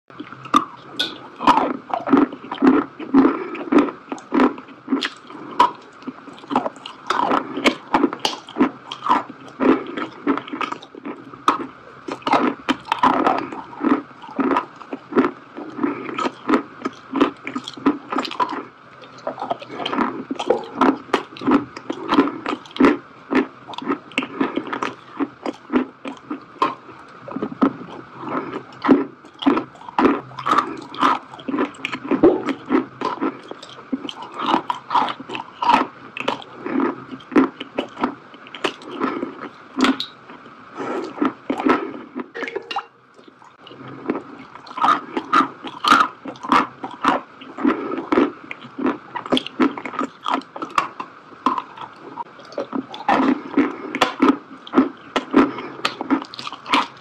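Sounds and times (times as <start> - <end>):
person chewing food: 0.1 - 57.0.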